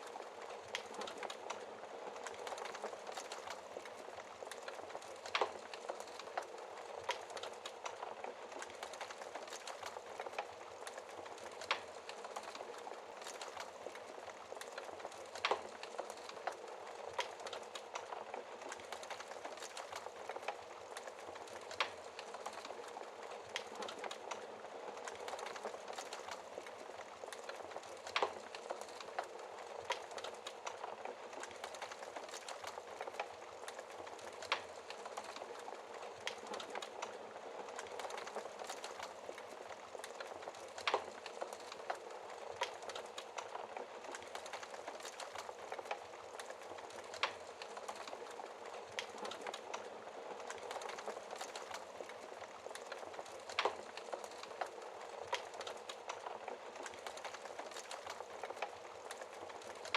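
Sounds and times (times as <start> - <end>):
wood fire hissing and crackling: 0.0 - 59.9.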